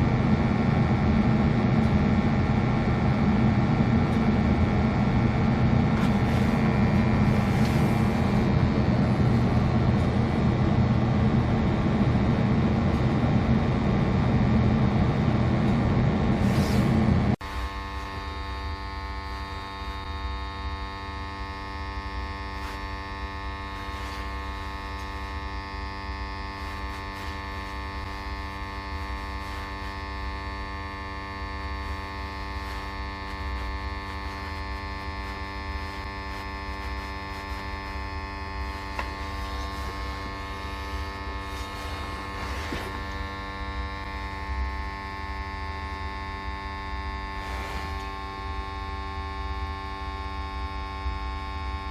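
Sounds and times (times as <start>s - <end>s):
steady hum: 0.0s - 51.9s.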